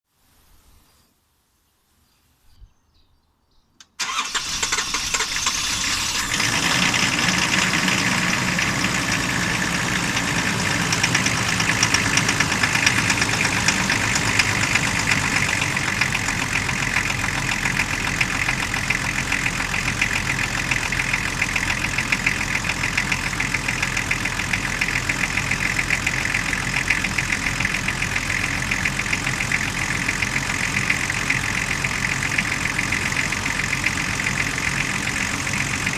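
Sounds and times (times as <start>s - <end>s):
diesel engine idling with knock: 6.2s - 35.9s.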